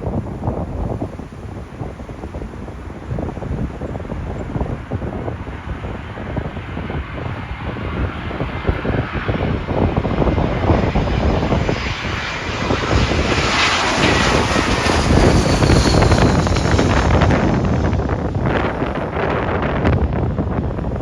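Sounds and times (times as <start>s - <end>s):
jet airliner engines roaring: 0.0s - 21.0s
wind gusting on microphone: 0.0s - 21.0s.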